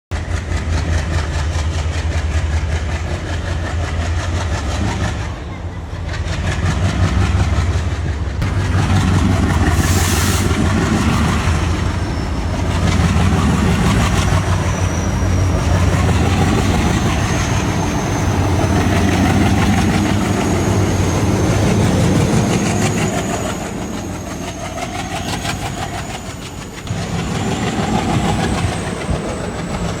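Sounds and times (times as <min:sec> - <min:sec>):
train rumbling on rails: 0:00.1 - 0:30.0.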